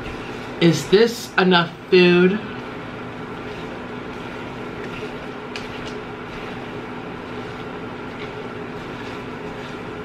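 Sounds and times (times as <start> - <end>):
chopsticks stirring noodles: 0.0 - 0.9, 2.5 - 10.0
steady hum and hiss: 0.0 - 10.0.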